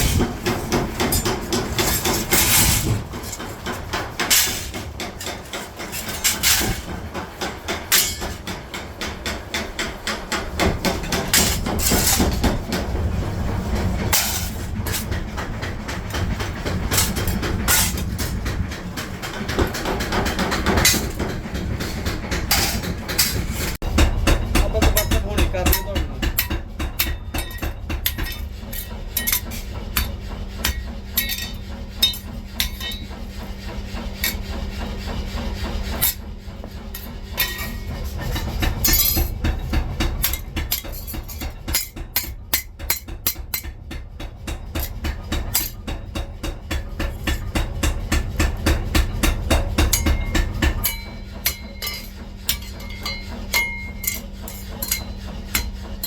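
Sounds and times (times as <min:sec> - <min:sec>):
machine hum: 0:00.0 - 0:56.0
rapid hammering on steel: 0:00.0 - 0:56.0.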